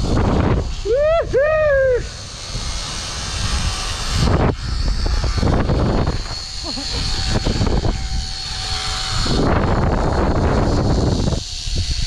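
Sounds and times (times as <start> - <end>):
high steady whine: 0.0 - 12.0
wind buffeting microphone: 0.0 - 12.0
zipline trolley running on cable: 0.0 - 12.0.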